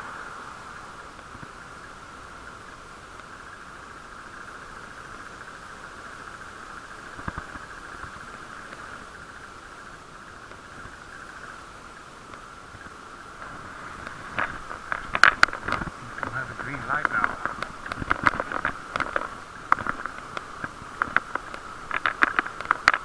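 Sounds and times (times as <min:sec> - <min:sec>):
muffled bicycle ride noise: 0:00.0 - 0:23.0.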